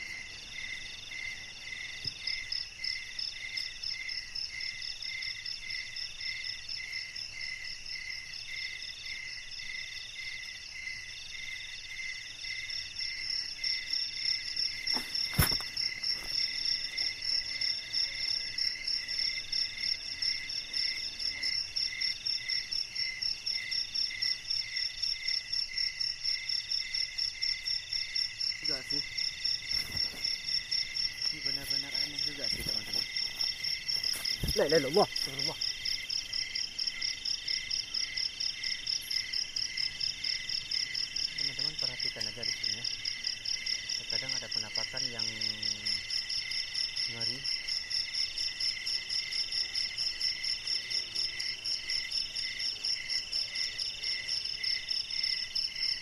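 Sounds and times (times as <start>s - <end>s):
insects and frogs calling: 0.0s - 56.0s.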